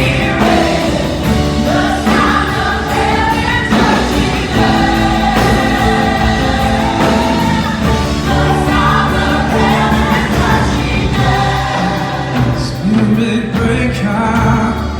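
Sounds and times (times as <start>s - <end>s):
choir singing held notes: 0.0s - 13.6s
band with bass and beat: 0.0s - 14.9s.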